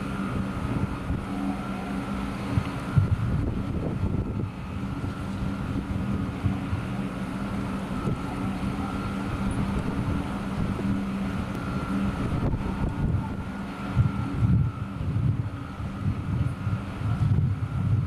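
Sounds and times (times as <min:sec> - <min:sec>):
high steady whine: 0:00.0 - 0:18.0
ship machinery low hum: 0:00.0 - 0:18.0
wind buffeting microphone: 0:00.0 - 0:18.0.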